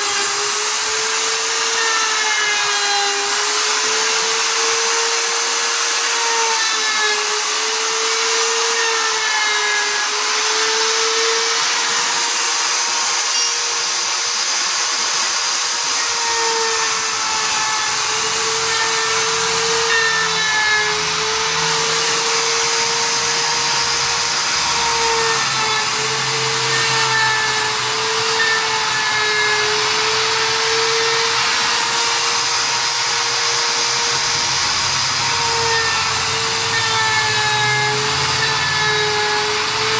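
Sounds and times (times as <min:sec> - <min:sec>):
router motor whine: 0:00.0 - 0:39.9
wood cutting hiss: 0:00.0 - 0:39.9.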